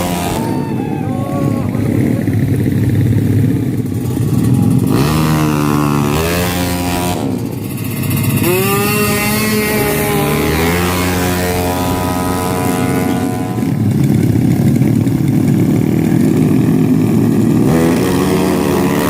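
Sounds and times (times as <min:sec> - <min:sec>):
motorcycle engines revving hard: 0:00.0 - 0:19.0.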